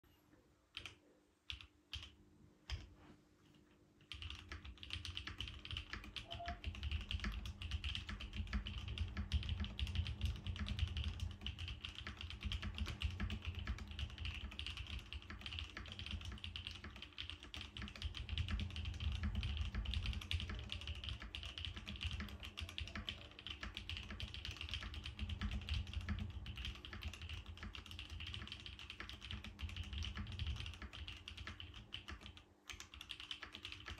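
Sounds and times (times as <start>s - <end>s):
mechanical keyboard typing: 0.7s - 2.9s, 4.0s - 33.9s.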